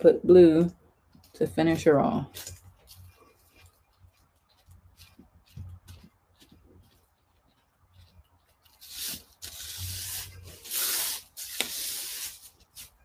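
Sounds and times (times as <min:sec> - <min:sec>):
fingers rubbing powdery mixture: 0:01.0 - 0:13.0.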